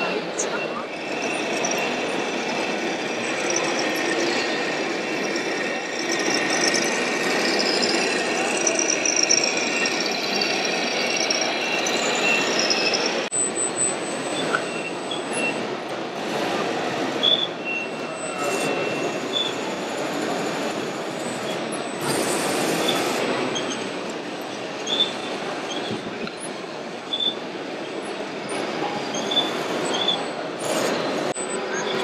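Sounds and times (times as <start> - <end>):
exhibition hall hubbub: 0.0 - 32.0.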